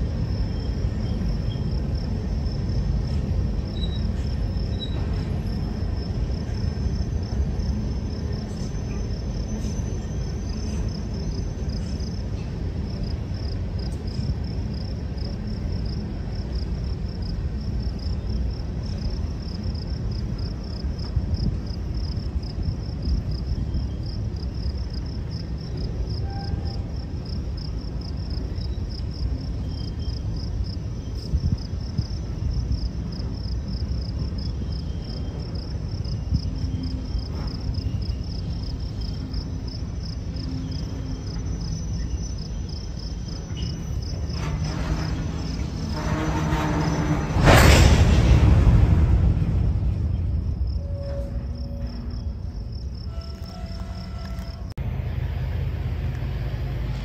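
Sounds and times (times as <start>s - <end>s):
freight cars rumbling past: 0.0s - 57.0s.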